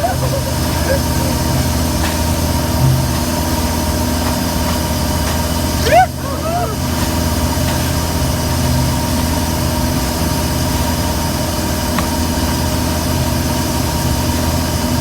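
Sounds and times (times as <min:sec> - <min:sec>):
boat engine humming: 0:00.0 - 0:15.0
water wash: 0:00.0 - 0:15.0.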